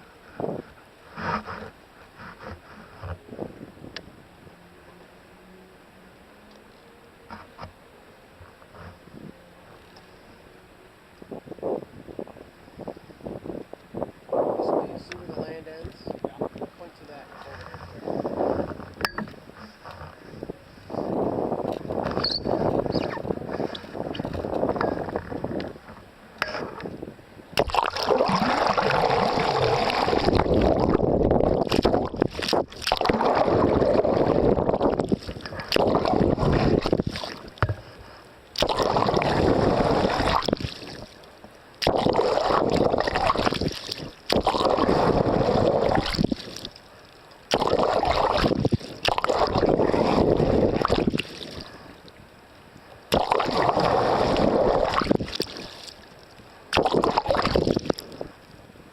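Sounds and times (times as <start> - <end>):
water splashing along boat hull: 0.0 - 4.2, 15.0 - 58.6.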